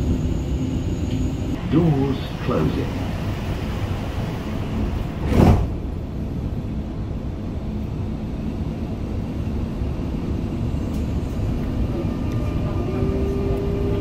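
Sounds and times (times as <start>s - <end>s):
train carriage low rumble: 0.0s - 14.0s.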